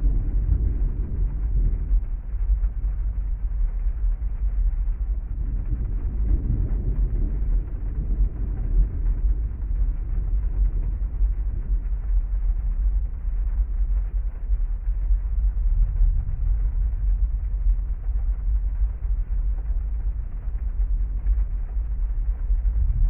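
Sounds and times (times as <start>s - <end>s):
heavy rain: 0.0s - 23.0s
thunder rumbling: 0.0s - 23.0s.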